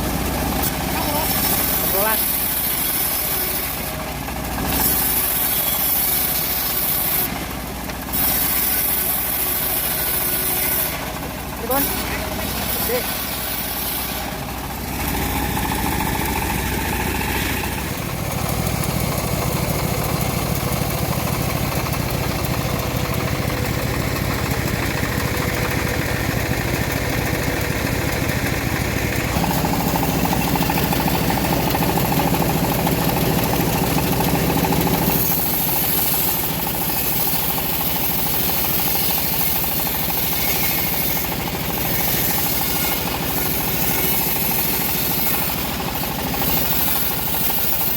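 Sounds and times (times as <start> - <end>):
engine-driven bandsaw sawing log: 0.0 - 47.9.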